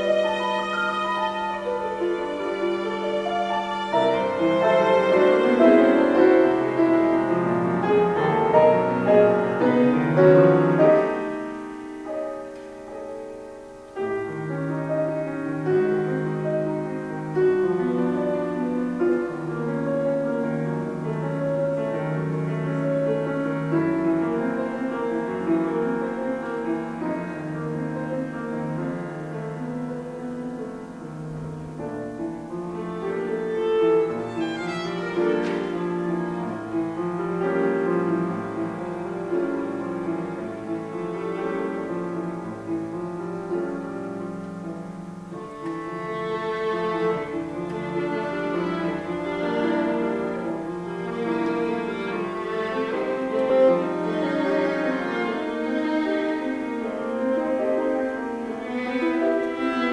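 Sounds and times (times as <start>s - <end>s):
grand piano: 0.0s - 59.9s
violin: 0.0s - 59.9s.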